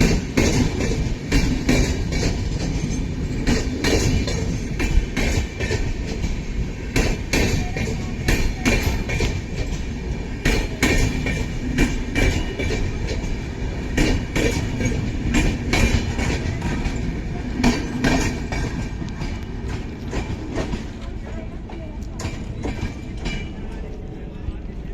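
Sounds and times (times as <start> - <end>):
train rumbling on rails: 0.0 - 24.9
train wheels clacking over track: 0.0 - 24.9.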